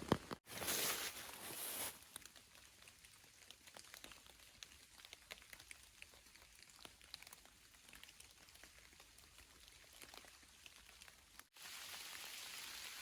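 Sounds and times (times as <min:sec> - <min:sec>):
raindrops pattering: 0:01.6 - 0:13.0.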